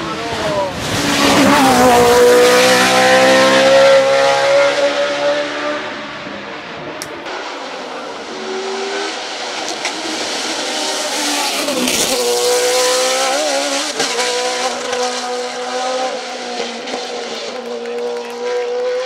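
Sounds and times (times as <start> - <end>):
racing car engine high revs: 0.0 - 19.0.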